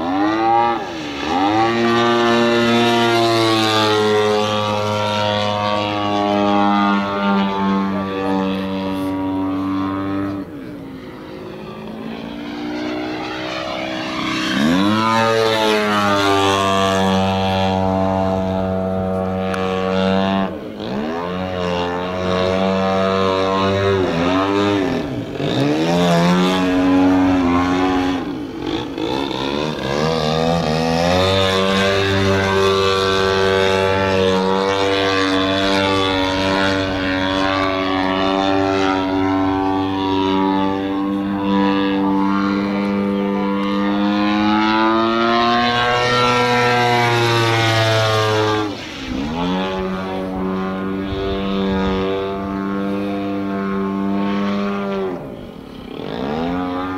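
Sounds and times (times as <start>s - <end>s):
model plane engine and propeller: 0.0s - 56.9s.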